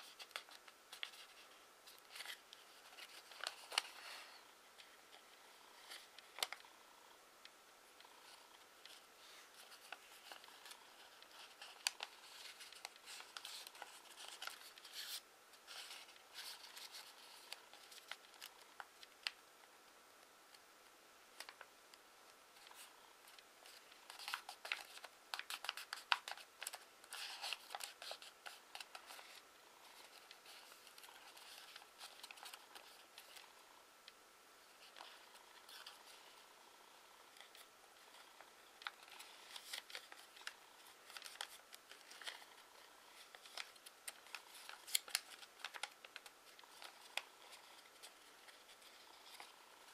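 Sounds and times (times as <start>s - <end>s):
paper crinkling while folded: 0.0s - 6.6s, 8.0s - 19.4s, 22.5s - 33.6s, 34.6s - 36.4s, 37.3s - 49.9s.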